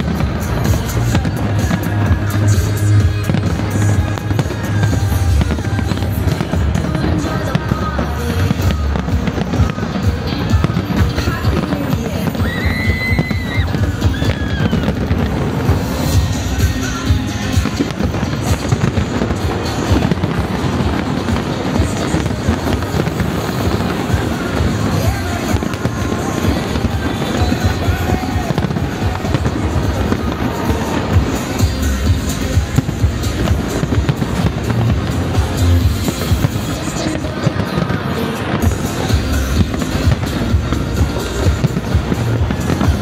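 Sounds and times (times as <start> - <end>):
fireworks bangs and crackles: 0.0 - 43.0
loud music with heavy bass: 0.0 - 43.0.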